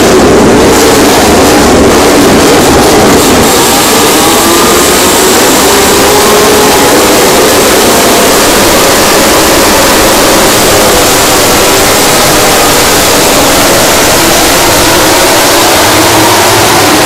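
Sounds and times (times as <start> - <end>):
racing motorcycles revving: 0.0 - 17.0.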